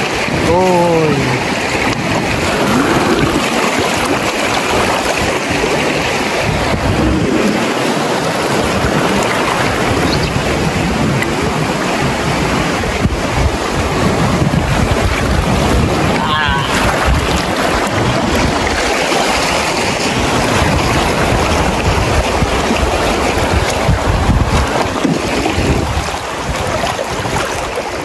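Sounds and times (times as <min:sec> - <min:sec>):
flowing river water: 0:00.0 - 0:28.0
wind buffeting microphone: 0:00.0 - 0:28.0.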